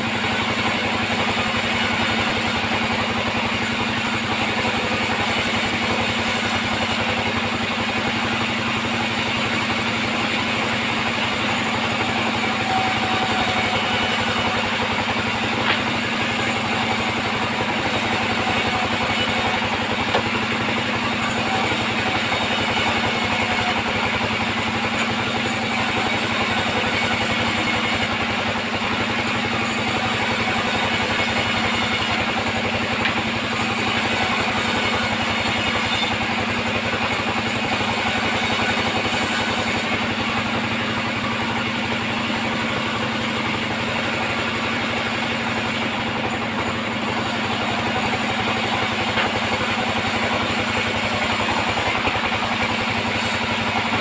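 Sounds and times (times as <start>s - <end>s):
band saw running: 0.0s - 54.0s.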